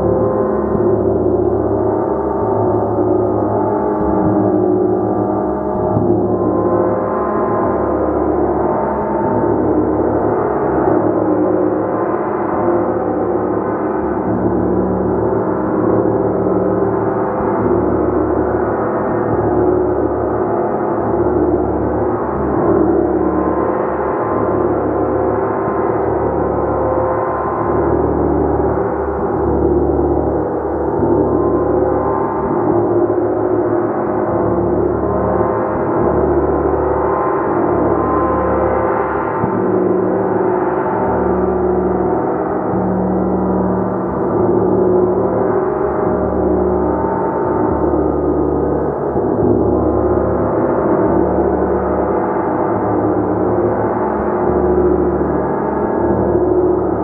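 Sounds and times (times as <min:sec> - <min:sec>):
gong struck repeatedly: 0:00.0 - 0:57.0.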